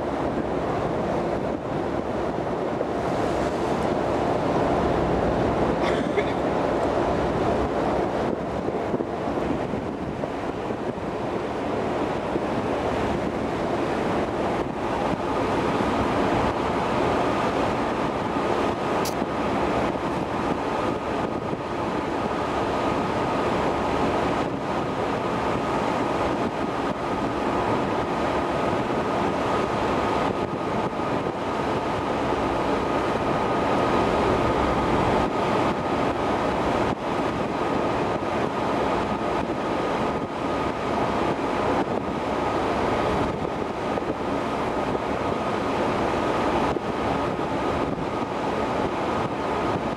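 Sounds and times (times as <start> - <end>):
sea rushing: 0.0 - 49.9
wind buffeting microphone: 0.0 - 49.9.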